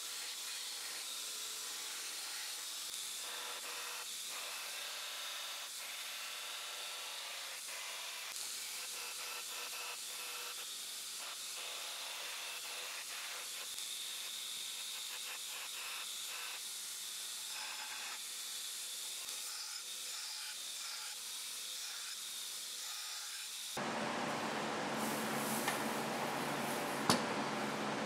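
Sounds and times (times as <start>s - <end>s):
belt grinder grinding blade: 0.0s - 23.8s.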